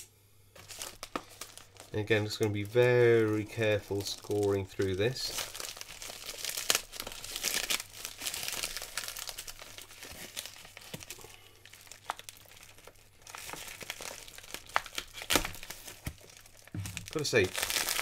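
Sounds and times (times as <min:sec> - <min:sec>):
plastic mailer crinkling: 0:00.6 - 0:18.0.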